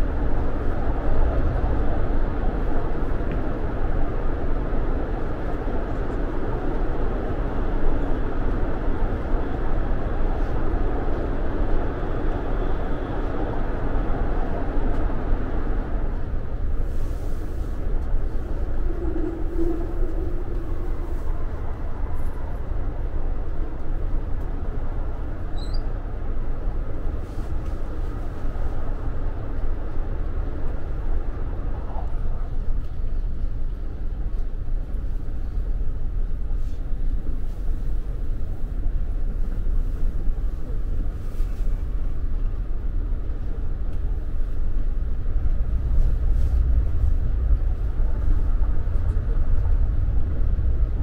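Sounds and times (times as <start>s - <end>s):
train wheels and motors rumbling: 0.0s - 51.0s.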